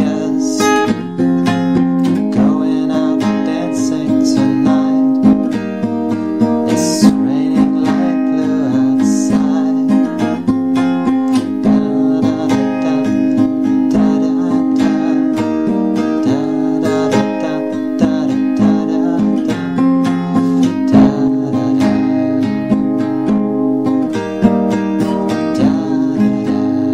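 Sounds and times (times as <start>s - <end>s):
song with strummed guitar: 0.0s - 26.9s.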